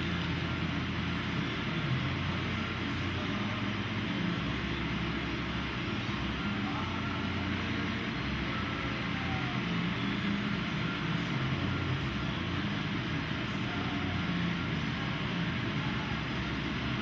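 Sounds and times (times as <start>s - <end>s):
mechanical droning hum: 0.0s - 17.0s.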